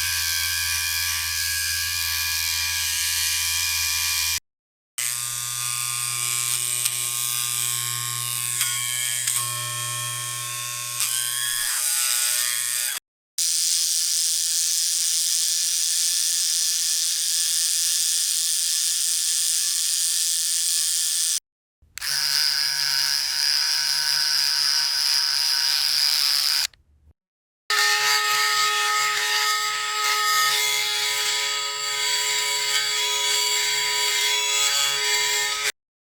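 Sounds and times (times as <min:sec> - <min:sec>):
electric shaver buzzing: 0:00.0 - 0:04.4, 0:05.0 - 0:21.4, 0:22.0 - 0:26.8, 0:27.7 - 0:35.8.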